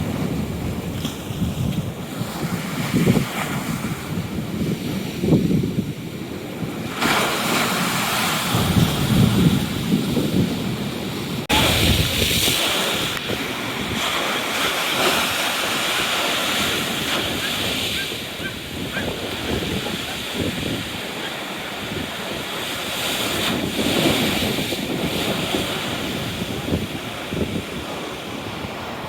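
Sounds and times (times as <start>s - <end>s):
sea waves breaking: 0.0s - 29.0s
wind buffeting microphone: 0.0s - 29.0s.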